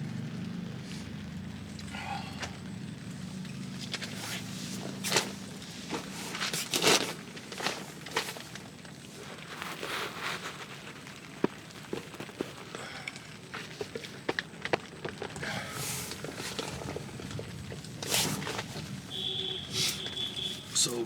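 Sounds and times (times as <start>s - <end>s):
gear rustling and crinkling: 0.3s - 21.0s.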